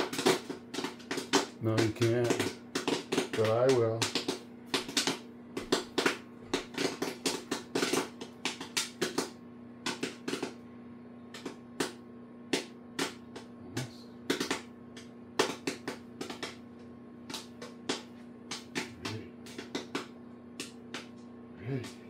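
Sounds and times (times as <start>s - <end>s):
popcorn popping in a pot: 0.0s - 22.0s
steady low hum: 0.0s - 22.0s.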